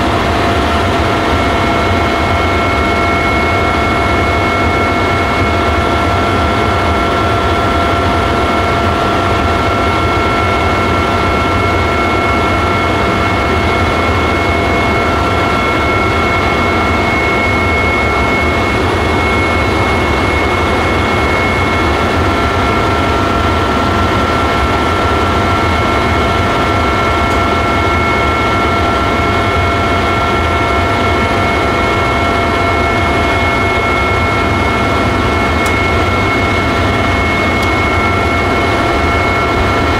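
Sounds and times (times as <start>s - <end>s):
helicopter engine and rotor drone: 0.0s - 39.9s
high whine: 0.0s - 39.9s.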